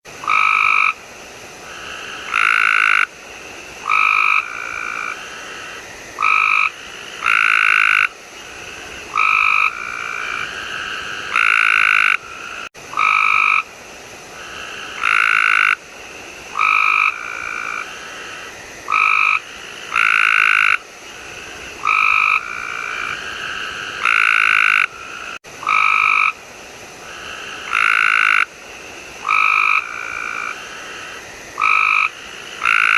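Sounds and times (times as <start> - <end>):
frog croaking: 0.2 - 1.0, 1.6 - 13.7, 14.3 - 26.4, 27.0 - 32.9.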